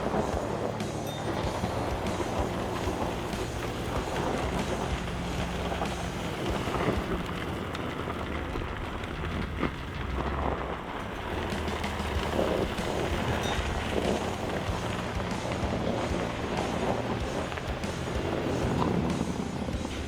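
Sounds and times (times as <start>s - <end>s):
truck engine humming: 0.0s - 20.0s.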